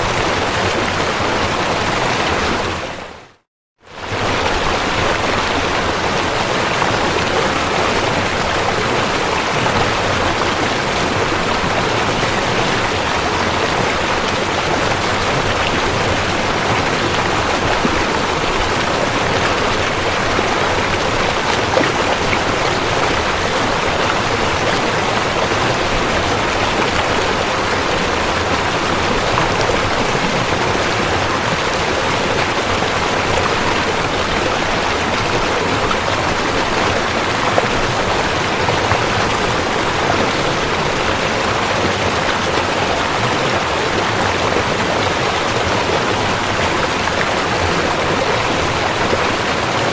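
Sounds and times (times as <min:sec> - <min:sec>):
rushing river water: 0:00.0 - 0:49.9.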